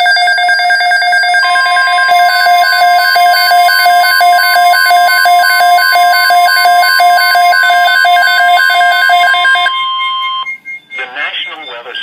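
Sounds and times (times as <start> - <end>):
weather radio alarm beeping: 1.2 - 12.0.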